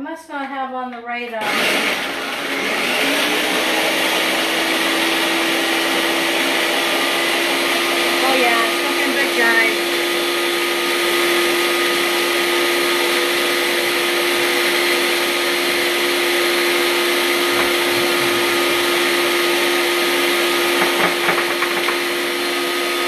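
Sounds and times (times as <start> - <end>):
blender running: 1.4 - 23.0.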